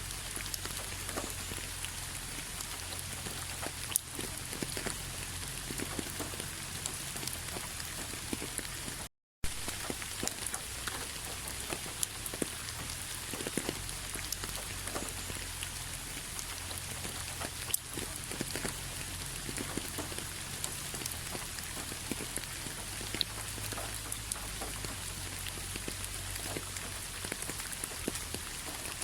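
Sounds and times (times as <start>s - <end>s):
raindrops pattering close by: 0.0s - 29.0s
steady rainfall: 0.0s - 29.0s.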